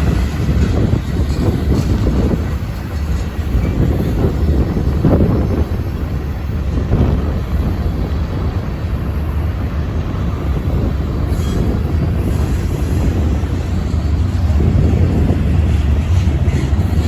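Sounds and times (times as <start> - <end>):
freight train rumbling past: 0.0 - 17.0
wind buffeting microphone: 0.0 - 17.0.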